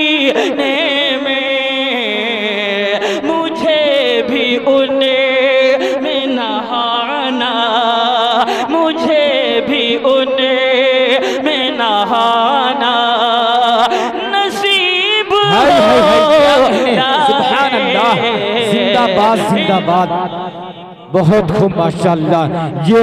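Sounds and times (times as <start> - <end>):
man singing devotional poem: 0.0 - 23.0.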